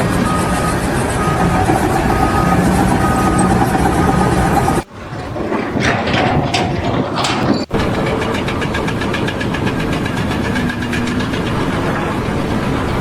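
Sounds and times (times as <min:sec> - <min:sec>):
engine running with rapid pulse: 0:00.0 - 0:13.0
mixed noise: 0:00.0 - 0:13.0.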